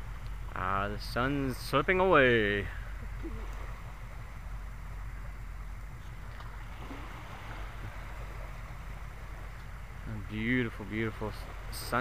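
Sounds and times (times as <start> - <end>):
low beach rumble: 0.0 - 12.0.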